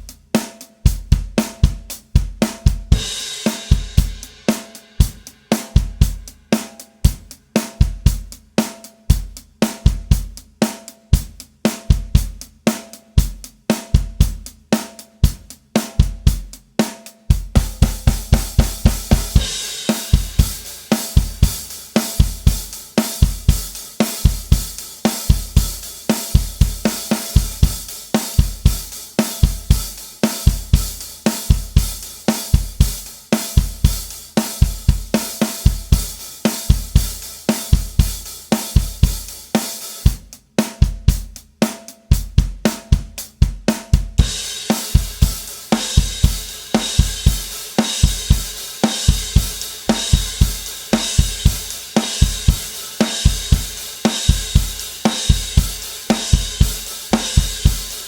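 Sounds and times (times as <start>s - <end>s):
drum kit rock beat: 0.0s - 58.0s.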